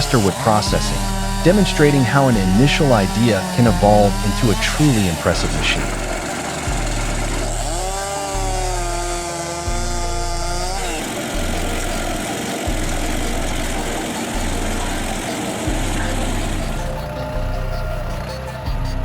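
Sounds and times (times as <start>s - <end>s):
firewood processor low drone: 0.0s - 19.0s
saw engine whining while cutting: 0.0s - 19.0s.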